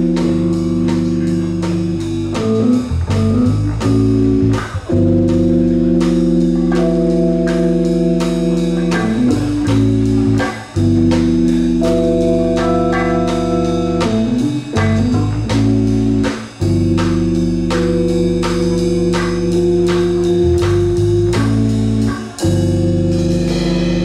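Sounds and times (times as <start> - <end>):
drums: 0.0 - 24.0
electric bass: 0.0 - 24.0
keyboard chords: 0.0 - 24.0.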